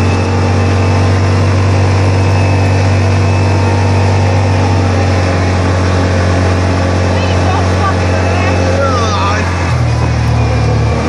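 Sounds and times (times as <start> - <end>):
atv engine running: 0.0 - 11.0
wind and tyres on dirt road: 0.0 - 11.0.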